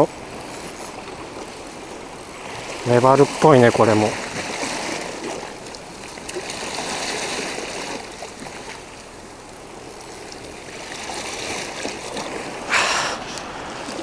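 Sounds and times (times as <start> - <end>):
seawater washing over rocks: 0.0 - 14.0.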